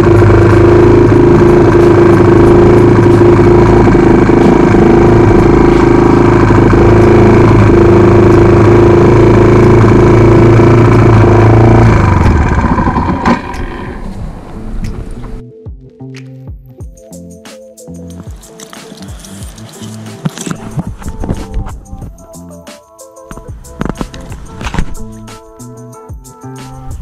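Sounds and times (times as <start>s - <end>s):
motorcycle engine idling: 0.0s - 15.4s, 18.0s - 22.7s, 23.3s - 27.0s.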